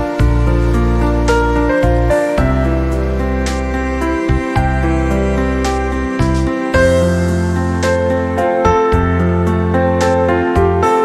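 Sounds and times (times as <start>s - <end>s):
calm slow instrumental music: 0.0s - 11.0s.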